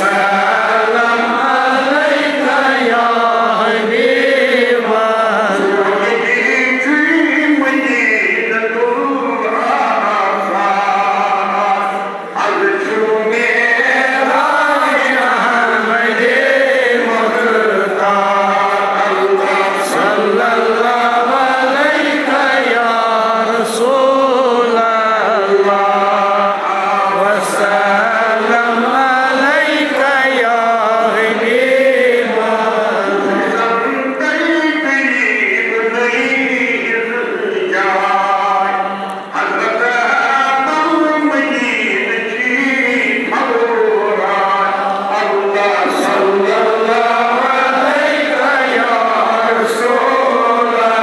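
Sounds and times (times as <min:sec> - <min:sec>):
men chanting together: 0:00.0 - 0:06.6, 0:09.3 - 0:33.9, 0:37.8 - 0:51.0.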